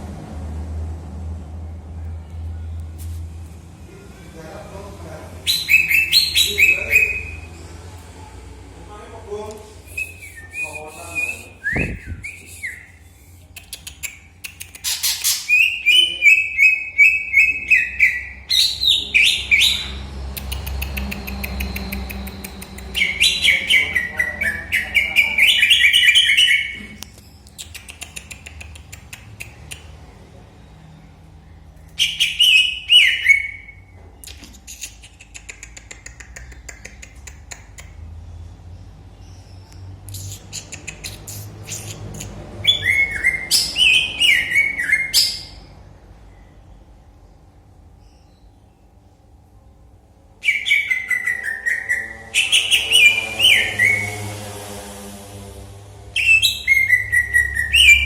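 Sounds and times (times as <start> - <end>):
birds chirping and warbling: 3.9 - 58.0.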